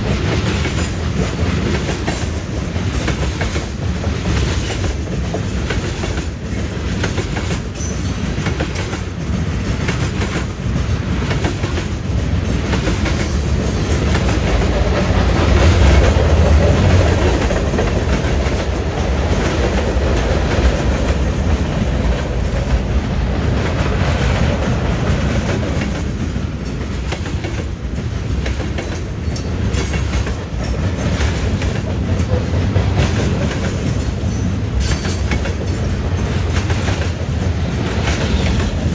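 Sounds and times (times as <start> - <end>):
steel wheels clacking on track: 0.0 - 38.9
train cars rolling past: 0.0 - 38.9.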